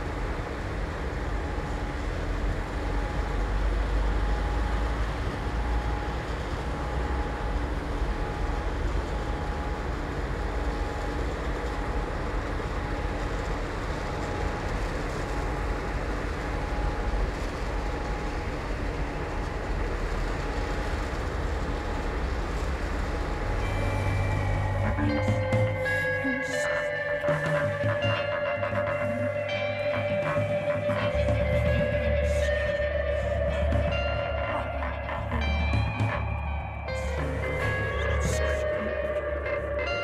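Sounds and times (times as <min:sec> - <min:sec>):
faint steady tone: 0:00.0 - 0:40.0.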